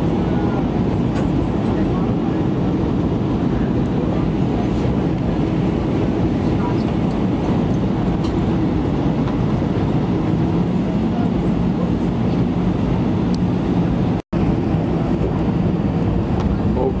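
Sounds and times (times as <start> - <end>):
airplane cabin engine and airflow noise: 0.0 - 17.0.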